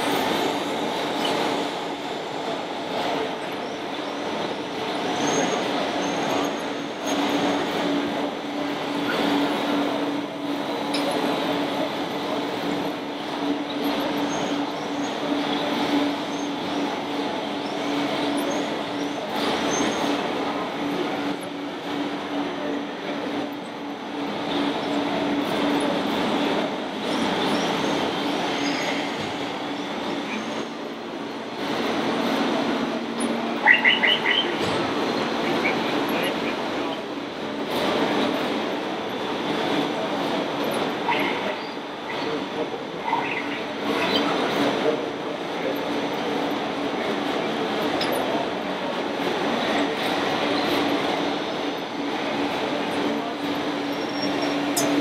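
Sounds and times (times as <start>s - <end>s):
exhibition hall crowd din: 0.0s - 55.0s.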